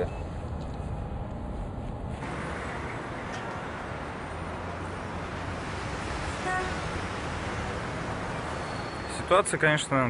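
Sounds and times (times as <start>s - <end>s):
city traffic noise: 0.0s - 10.0s.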